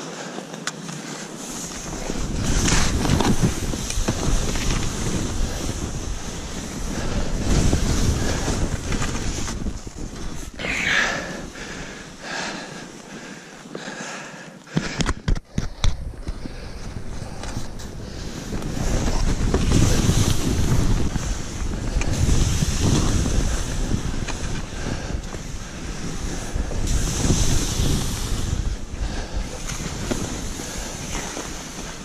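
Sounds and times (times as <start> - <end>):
skis running through powder snow: 0.0 - 32.0
wind buffeting microphone: 1.4 - 13.3, 15.1 - 32.0.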